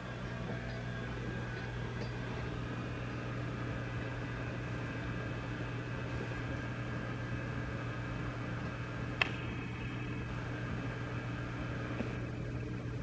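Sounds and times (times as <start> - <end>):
amplifier mains hum: 0.0 - 13.0.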